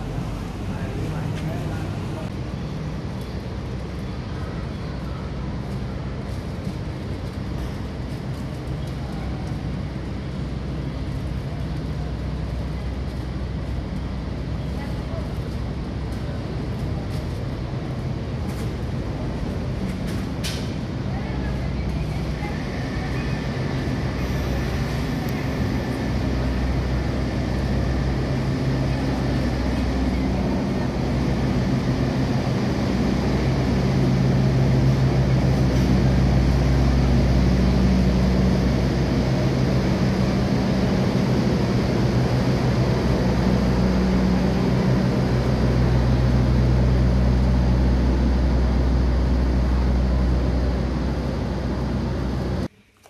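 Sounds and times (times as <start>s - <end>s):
diesel locomotive engine drone: 0.0s - 53.0s.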